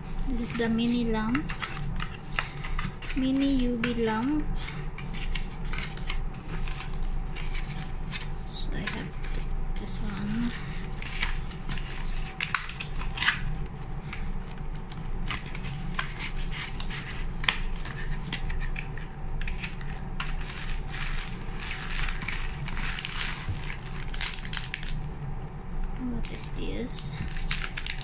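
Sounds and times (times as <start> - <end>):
steady low hum: 0.0 - 28.0
plastic packaging crinkling: 0.1 - 25.1, 26.0 - 28.0.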